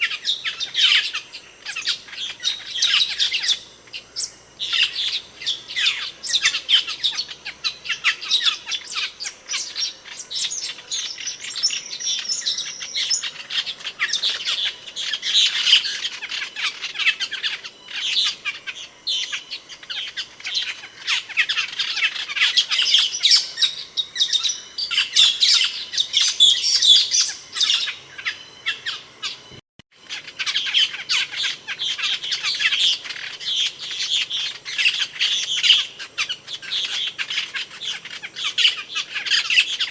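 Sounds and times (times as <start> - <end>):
bird sharp high chirps and squawks: 0.0 - 29.5, 30.1 - 39.9.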